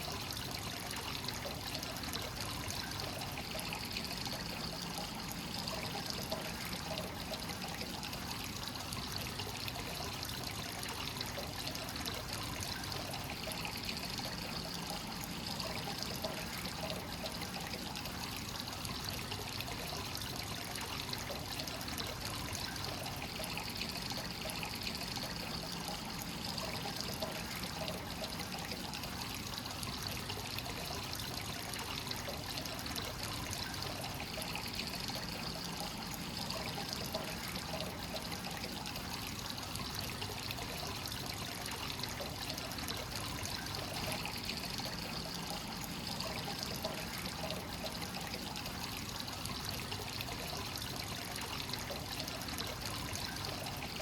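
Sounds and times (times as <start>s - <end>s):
water pouring into a bath: 0.0s - 54.0s.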